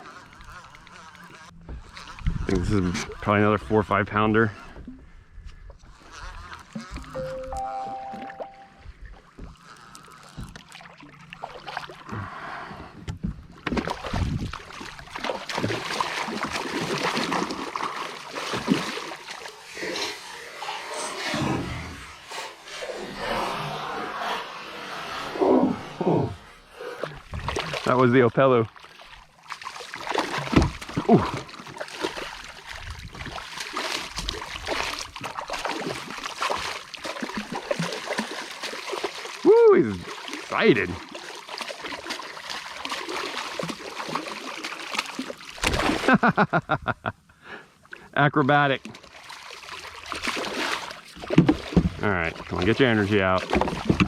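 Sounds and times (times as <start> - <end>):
water splashing around kayak: 0.0 - 22.8, 25.3 - 46.8, 47.6 - 54.0.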